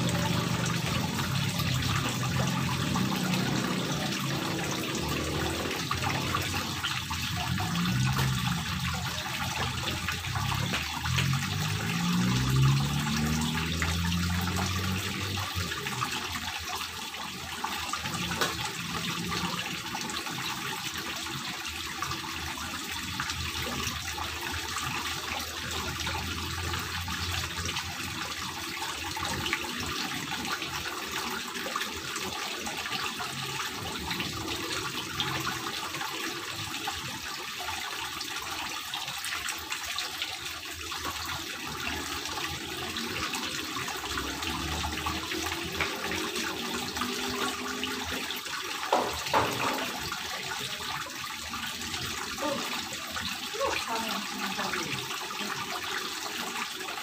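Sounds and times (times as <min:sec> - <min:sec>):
water splashing down stone wall: 0:00.0 - 0:57.0.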